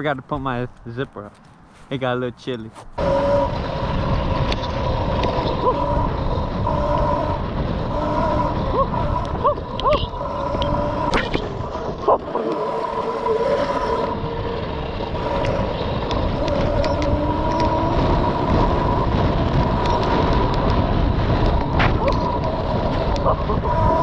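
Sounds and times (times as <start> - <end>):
small engine running: 3.0 - 24.0.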